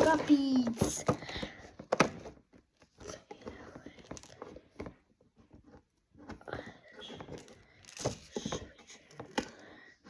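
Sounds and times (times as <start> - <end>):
plastic items and packaging handled: 0.0 - 10.0.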